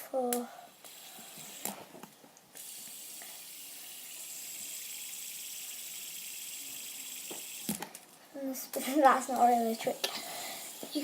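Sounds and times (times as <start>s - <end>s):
fidget spinner whirring: 0.1s - 11.0s.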